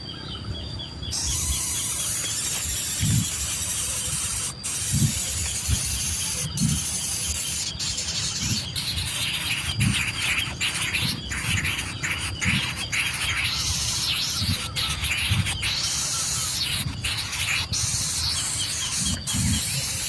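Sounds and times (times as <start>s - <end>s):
baby birds chirping: 1.1s - 20.0s
steady hiss: 1.1s - 20.0s.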